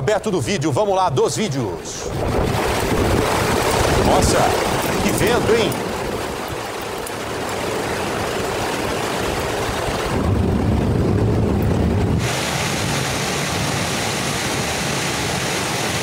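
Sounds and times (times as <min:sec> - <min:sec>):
strong wind and heavy rain: 0:00.5 - 0:16.0
wind buffeting microphone: 0:01.9 - 0:14.9.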